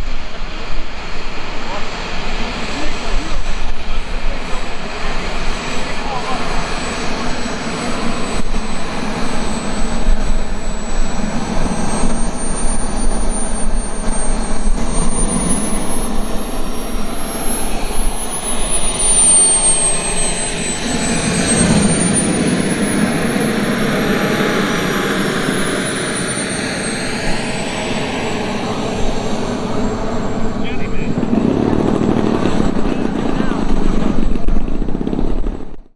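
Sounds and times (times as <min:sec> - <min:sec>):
high turbine whine: 0:00.0 - 0:35.9
turbine exhaust rushing: 0:00.0 - 0:35.9.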